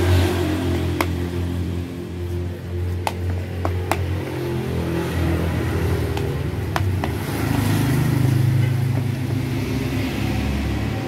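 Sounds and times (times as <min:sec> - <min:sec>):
vehicle engines running: 0:00.0 - 0:11.0
vehicle passing: 0:00.0 - 0:11.0.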